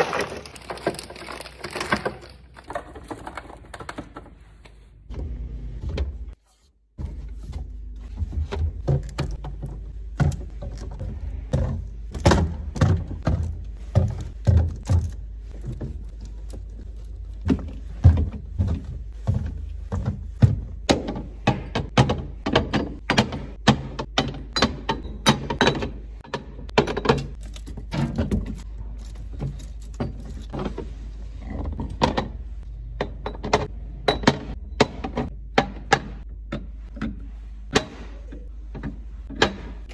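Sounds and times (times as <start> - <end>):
groceries knocking and clattering: 0.0 - 6.4, 7.0 - 39.9.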